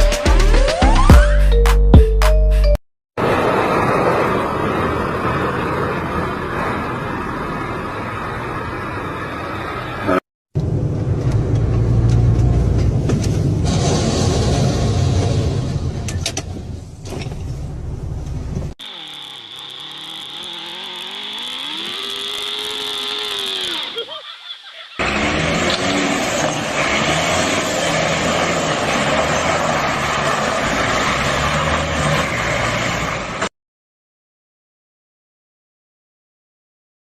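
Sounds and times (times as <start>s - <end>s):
road noise: 3.2s - 33.5s
vehicle engine: 3.2s - 33.5s.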